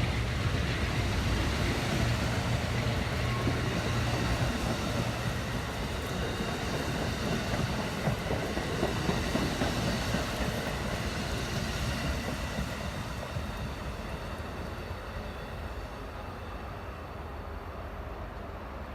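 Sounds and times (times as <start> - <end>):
train wheels clattering on rails: 0.0 - 16.2.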